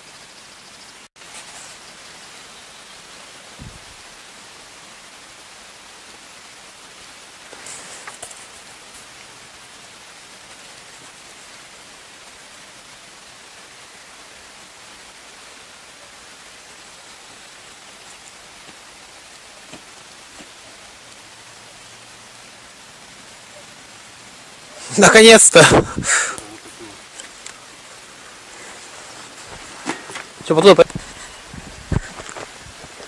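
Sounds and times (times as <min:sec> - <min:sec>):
steady outdoor hiss: 0:00.0 - 0:33.0.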